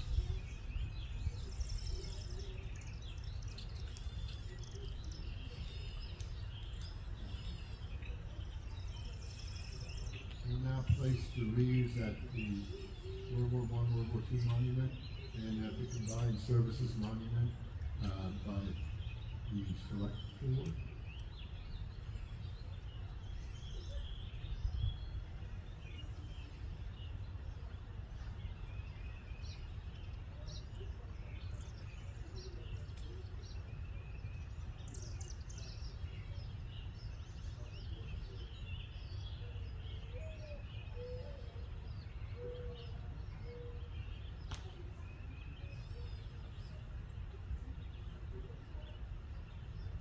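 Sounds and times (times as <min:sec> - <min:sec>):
birds chirping and singing: 0:00.0 - 0:50.0
low outdoor rumble: 0:00.0 - 0:50.0.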